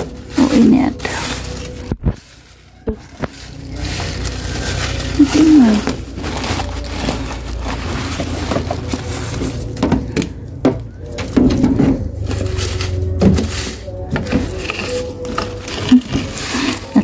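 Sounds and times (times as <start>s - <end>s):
dry leaves rustling: 0.0s - 17.0s.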